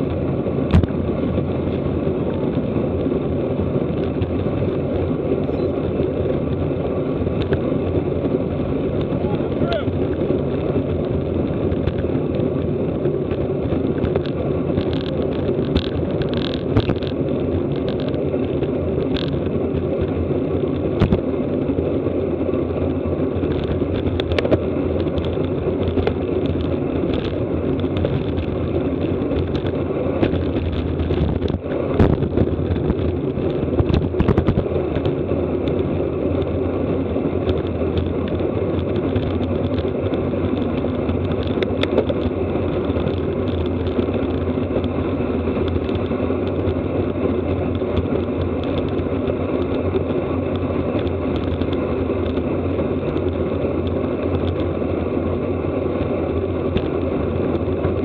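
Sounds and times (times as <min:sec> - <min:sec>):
bicycle road noise: 0:00.0 - 0:58.0
wind on microphone: 0:00.0 - 0:58.0.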